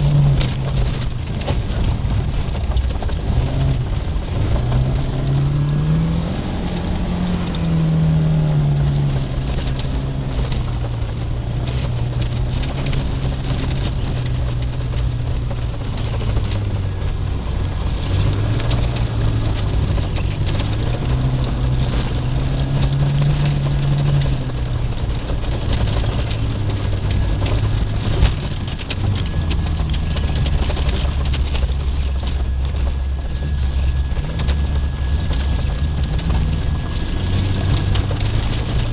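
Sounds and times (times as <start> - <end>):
car engine revving: 0.0 - 38.9
steady rushing noise: 0.0 - 38.9.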